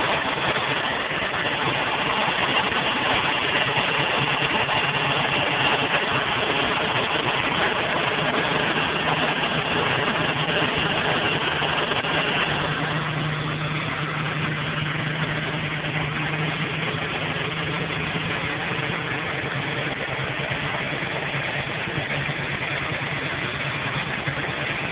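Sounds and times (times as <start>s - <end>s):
car engine idling: 0.0s - 24.9s
high-pitched squeal: 0.0s - 24.9s.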